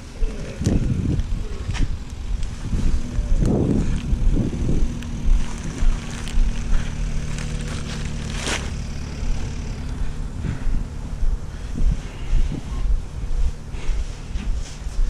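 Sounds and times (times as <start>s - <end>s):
distant motor drone: 0.0s - 15.0s
wind buffeting microphone: 0.0s - 15.0s.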